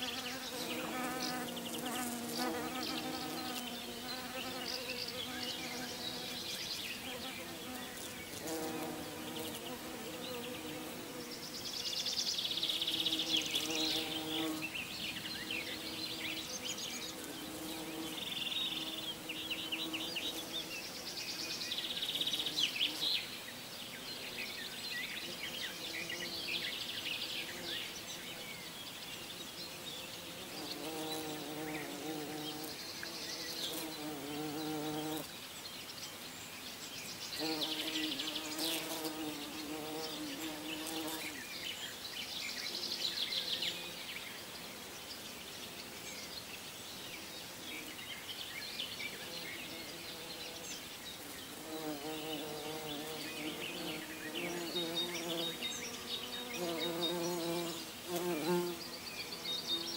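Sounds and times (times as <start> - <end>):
flying insects buzzing: 0.0 - 35.6, 37.1 - 59.9.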